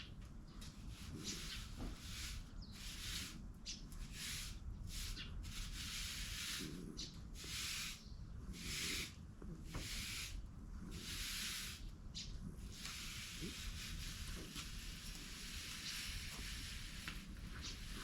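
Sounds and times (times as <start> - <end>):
scratchy brushing strokes: 0.7 - 18.0.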